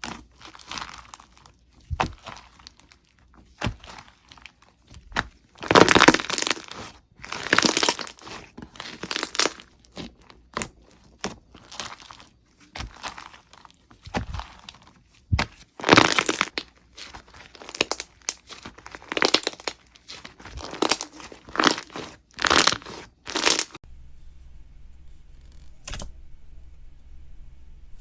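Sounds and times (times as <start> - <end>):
slime squished by hand: 0.0 - 23.8.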